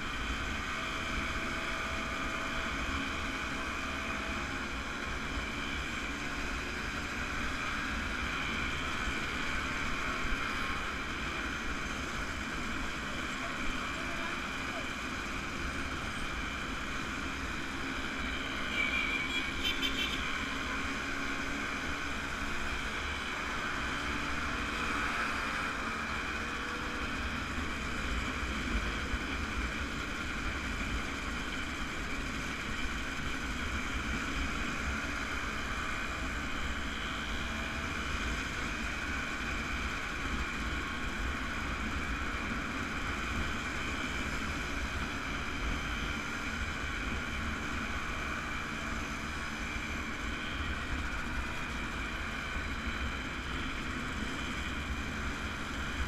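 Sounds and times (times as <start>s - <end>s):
motorcycle engines droning: 0.0s - 56.0s.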